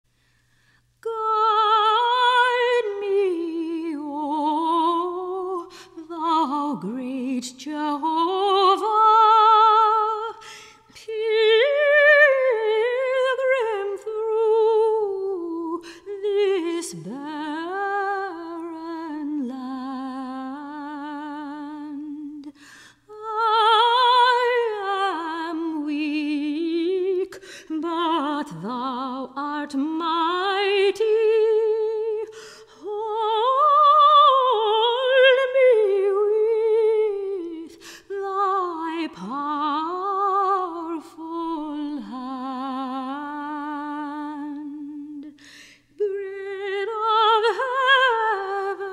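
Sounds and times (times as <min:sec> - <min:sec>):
soprano singing: 0:01.0 - 0:48.9.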